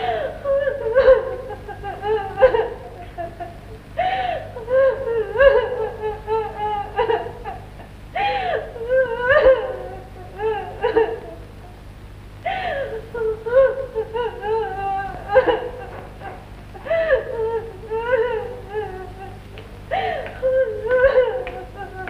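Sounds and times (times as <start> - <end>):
woman wailing: 0.0 - 7.6, 8.2 - 11.6, 12.5 - 22.0.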